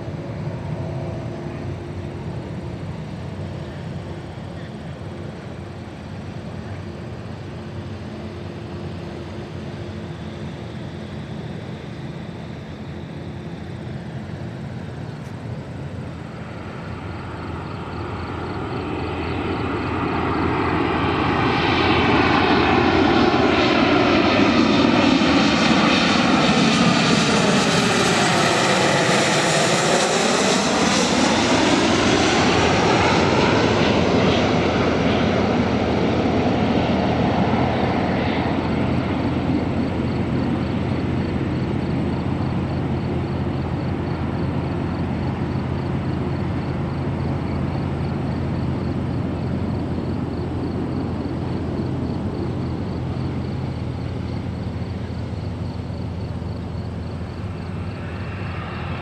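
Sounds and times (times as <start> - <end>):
jet airliner roar overhead: 0.0 - 59.0.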